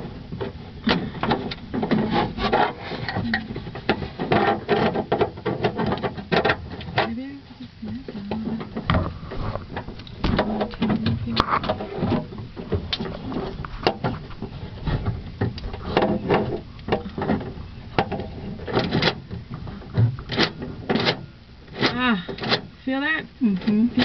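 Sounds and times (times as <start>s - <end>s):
plastic and metal parts knocking: 0.0s - 7.2s, 7.9s - 22.7s.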